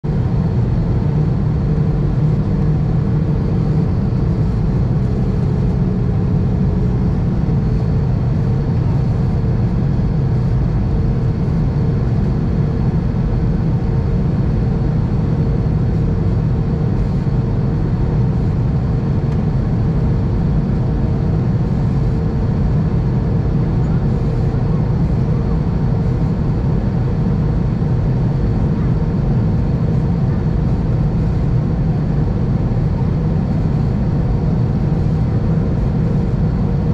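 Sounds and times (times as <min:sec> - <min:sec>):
engines and rushing air roar: 0:00.0 - 0:36.9
faint steady hum: 0:00.1 - 0:36.9.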